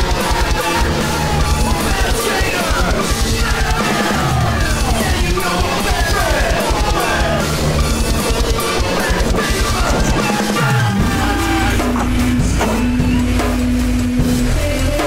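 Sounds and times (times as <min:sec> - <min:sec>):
loud rock song: 0:00.0 - 0:15.0.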